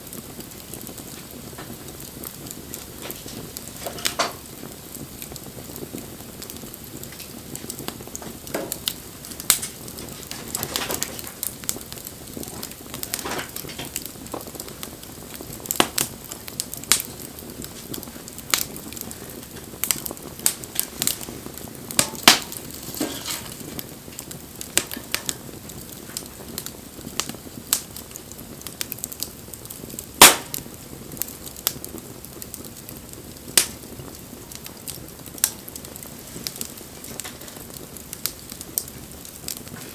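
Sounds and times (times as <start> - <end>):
bonfire crackling and popping: 0.0 - 39.9
fire low hiss: 0.0 - 39.9.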